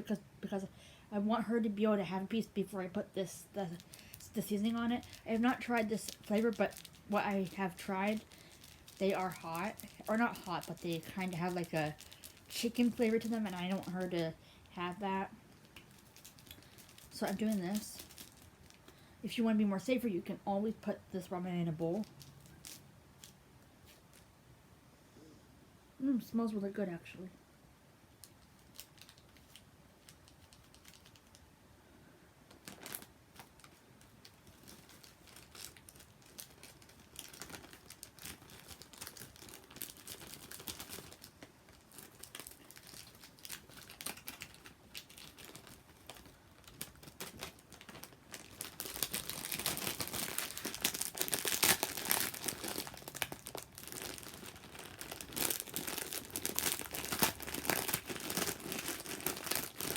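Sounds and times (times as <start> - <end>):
plastic packet crinkling: 2.1 - 20.0, 20.8 - 24.3, 28.2 - 31.5, 32.5 - 59.9.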